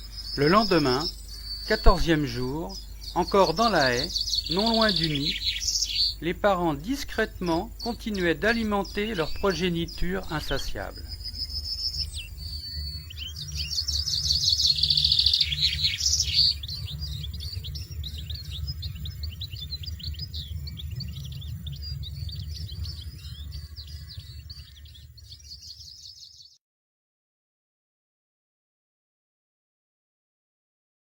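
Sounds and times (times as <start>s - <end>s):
low pulsing music: 0.0s - 26.0s
fledgling begging calls: 0.0s - 26.4s
finches twittering chirps: 0.0s - 26.6s.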